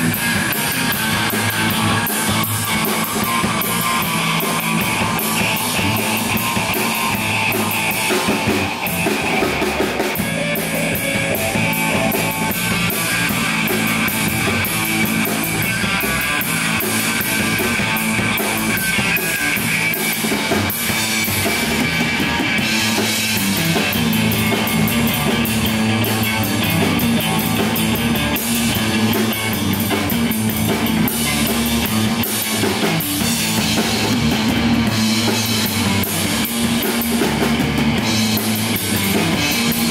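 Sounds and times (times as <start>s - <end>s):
drum kit with busy cymbals: 0.0s - 39.9s
electric bass: 0.0s - 39.9s
electric guitar: 0.0s - 39.9s.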